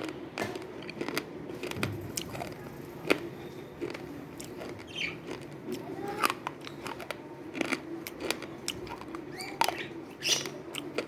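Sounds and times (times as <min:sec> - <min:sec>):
slate pencils crunching when chewed: 0:00.0 - 0:11.0.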